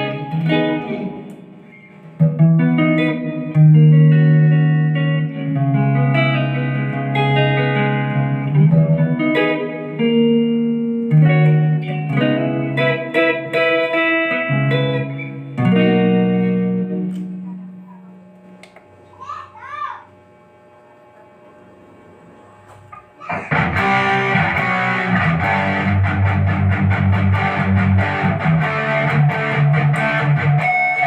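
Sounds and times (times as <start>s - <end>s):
electric guitar strummed chords: 0.0s - 18.6s, 22.9s - 31.0s.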